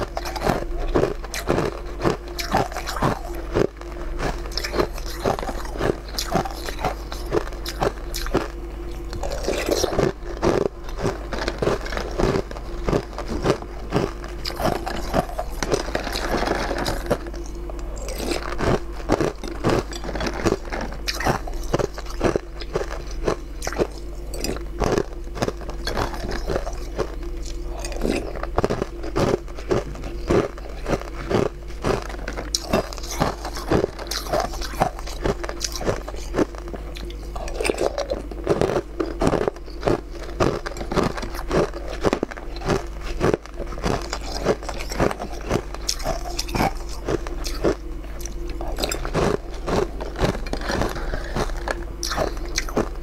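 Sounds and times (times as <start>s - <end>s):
crunching and chewing: 0.0s - 53.0s.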